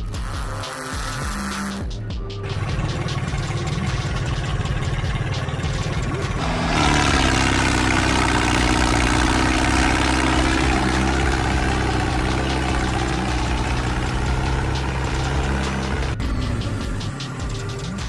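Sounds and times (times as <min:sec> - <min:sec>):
tractor engine running: 0:00.2 - 0:18.0
threshing machine: 0:02.5 - 0:18.0.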